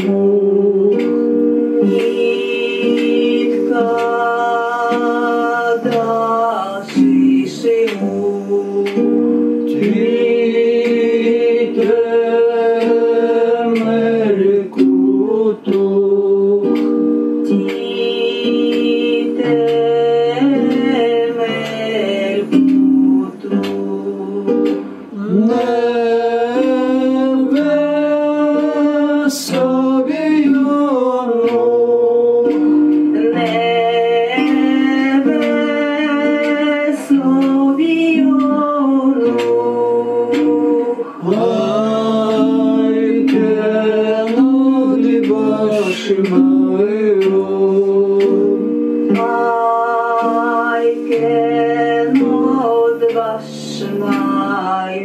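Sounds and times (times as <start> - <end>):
guitar accompaniment: 0.0 - 55.0
person singing: 0.0 - 55.0.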